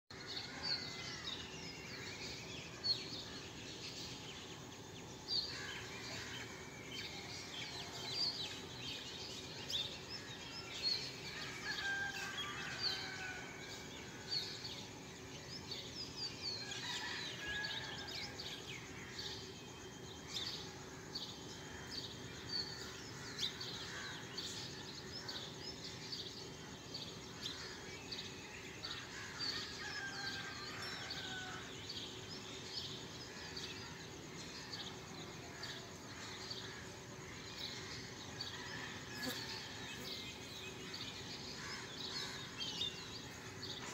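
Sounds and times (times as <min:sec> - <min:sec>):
low background noise: 0:00.1 - 0:43.9.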